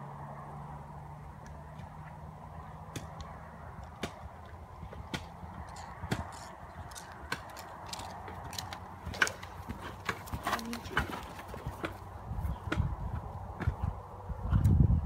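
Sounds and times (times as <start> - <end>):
horse hooves on sand: 1.5 - 14.7.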